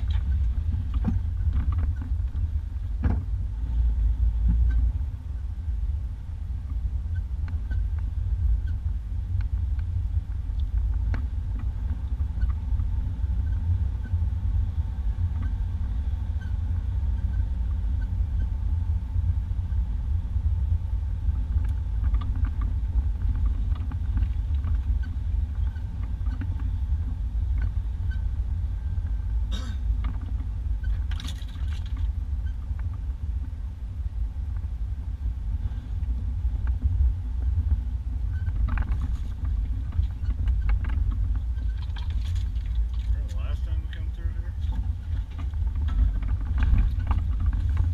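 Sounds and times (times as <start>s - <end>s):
vehicle engine and tyres rumbling: 0.0s - 47.9s.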